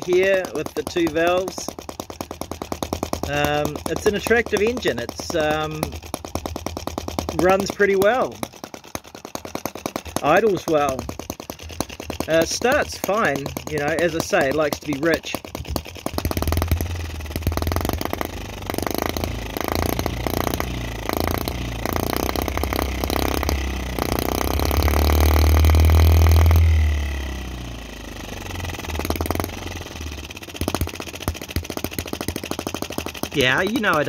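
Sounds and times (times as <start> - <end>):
model gas engine running: 0.0 - 34.0.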